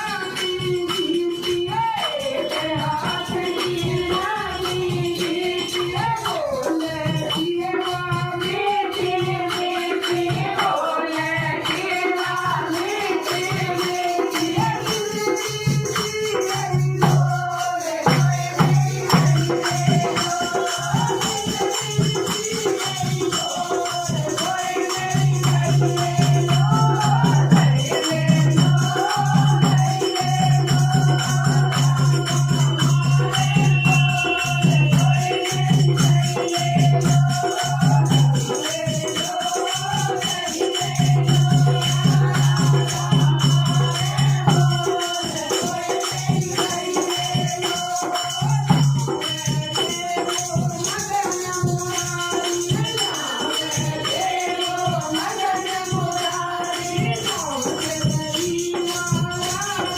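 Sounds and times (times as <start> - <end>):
rattling hand percussion: 0.0 - 59.9
woman singing: 0.0 - 59.9.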